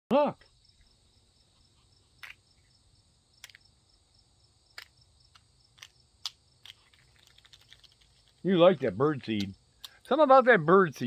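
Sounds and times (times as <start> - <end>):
insects chirping: 0.1 - 11.0.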